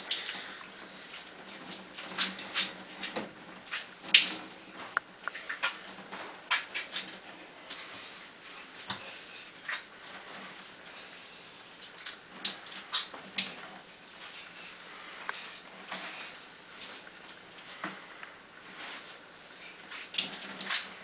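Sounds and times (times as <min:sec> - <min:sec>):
water splashing in bathtub: 0:00.0 - 0:21.0.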